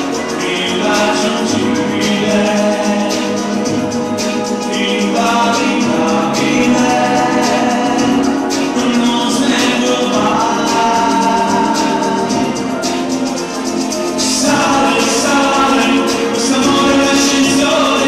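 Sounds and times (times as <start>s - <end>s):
man singing into microphone: 0.0s - 13.1s, 14.0s - 18.0s
musical accompaniment with beat: 0.0s - 18.0s.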